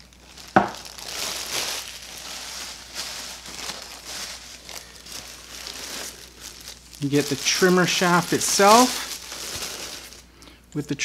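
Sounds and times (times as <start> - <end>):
plastic bag crinkling and rustling: 0.0 - 10.4.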